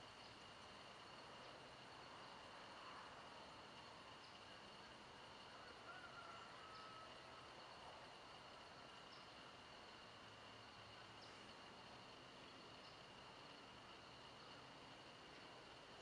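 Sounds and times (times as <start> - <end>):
insect trill: 0.1 - 16.0.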